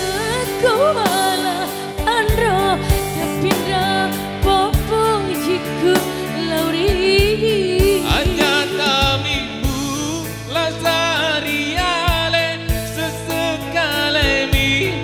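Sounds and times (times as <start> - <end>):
live song with drums: 0.0 - 15.0.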